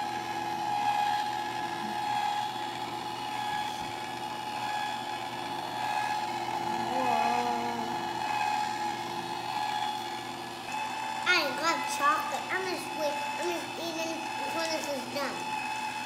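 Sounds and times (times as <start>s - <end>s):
ice cream maker motor whine: 0.0s - 16.0s.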